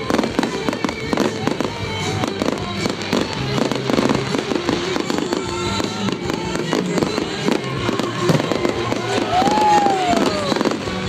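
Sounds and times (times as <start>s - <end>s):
fireworks bangs and crackles: 0.0s - 11.0s
music: 0.0s - 11.0s.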